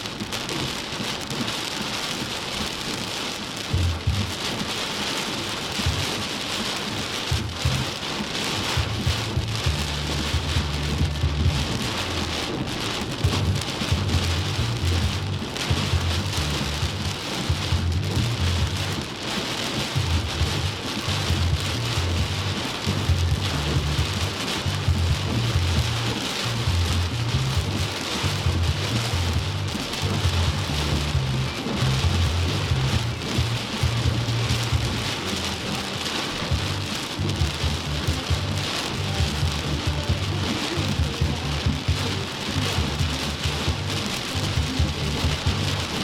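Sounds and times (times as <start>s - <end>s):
heavy rain pouring: 0.0s - 46.0s
low rumble: 3.6s - 4.4s, 5.8s - 6.4s, 7.1s - 46.0s.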